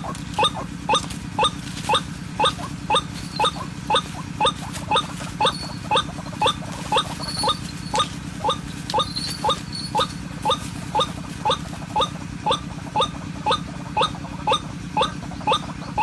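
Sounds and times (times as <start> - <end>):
bird calling kwak: 0.0 - 16.0
steady low hum: 0.0 - 16.0.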